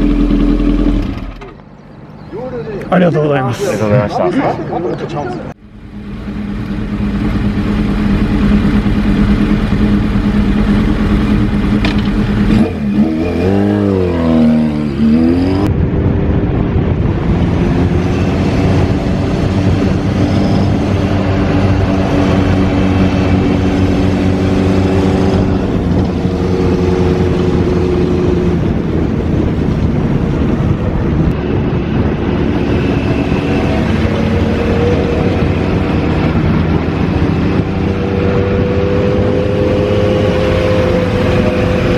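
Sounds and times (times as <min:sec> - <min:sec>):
motorcycle engine running: 0:00.0 - 0:02.3, 0:05.6 - 0:14.1, 0:15.8 - 0:41.9.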